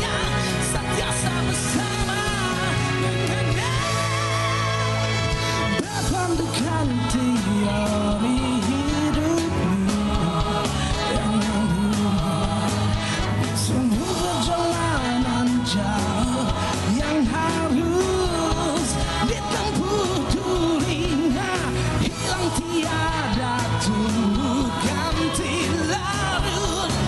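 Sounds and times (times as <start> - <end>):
man singing: 0.0 - 4.8, 5.6 - 27.0
pop-rock band backing: 0.0 - 27.0.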